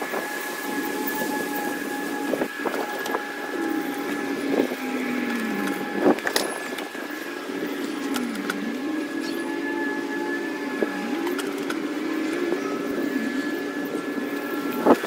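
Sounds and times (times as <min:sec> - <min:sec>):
motor running steadily: 0:00.0 - 0:15.0.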